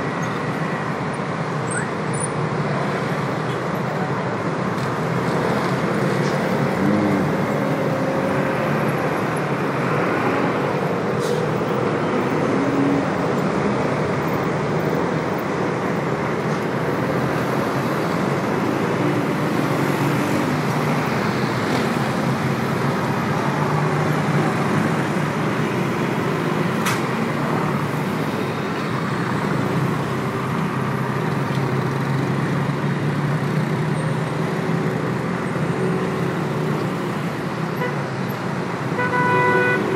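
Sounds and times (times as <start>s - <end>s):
dense city traffic: 0.0s - 39.9s.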